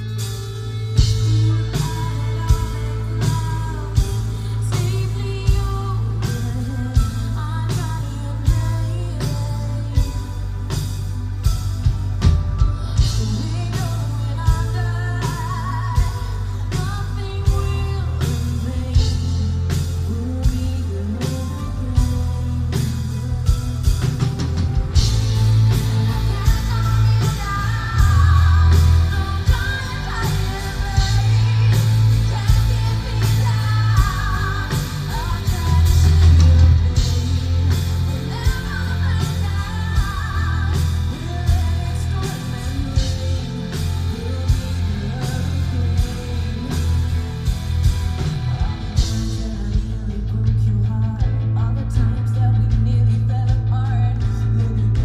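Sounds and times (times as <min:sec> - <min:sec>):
metal band playing loudly: 0:00.0 - 0:55.0
woman singing lead: 0:00.0 - 0:55.0.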